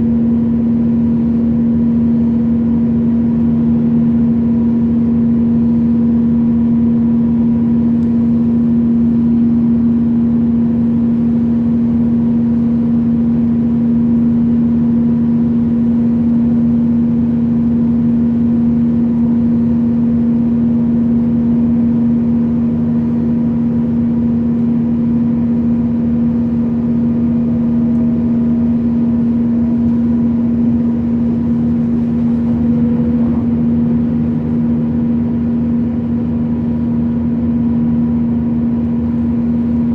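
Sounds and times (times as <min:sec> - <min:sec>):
passenger train running: 0:07.5 - 0:39.9.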